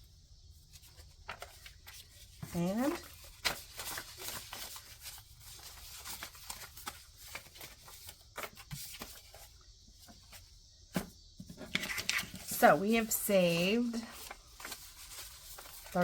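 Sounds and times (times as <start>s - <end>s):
paper rustling: 0.6s - 16.0s.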